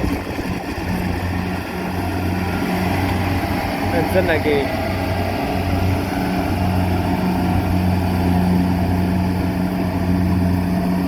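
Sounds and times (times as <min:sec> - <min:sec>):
harvester engine running: 0:00.0 - 0:11.0.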